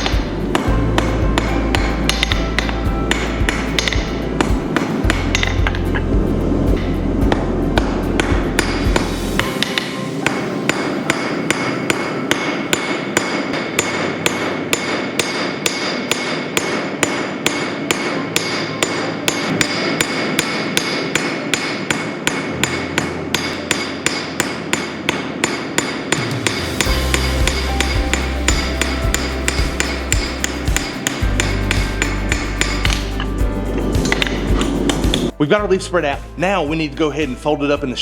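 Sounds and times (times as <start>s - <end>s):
hammer striking steel on anvil: 0.0s - 6.1s, 6.8s - 33.2s, 34.0s - 35.4s.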